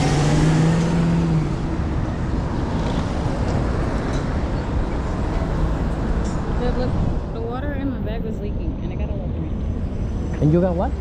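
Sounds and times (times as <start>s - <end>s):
rush of passing cars: 0.0s - 11.0s
truck engine hum: 0.0s - 11.0s.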